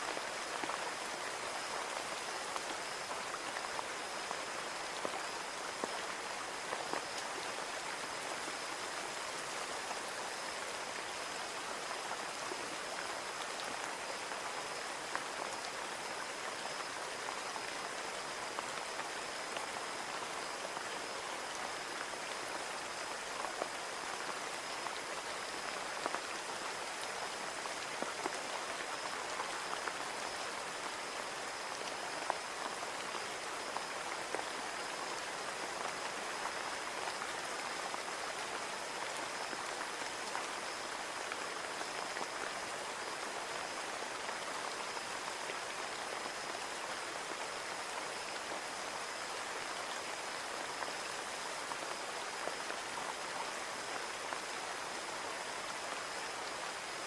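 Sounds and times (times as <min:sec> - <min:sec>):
rain on a window: 0:00.0 - 0:57.0.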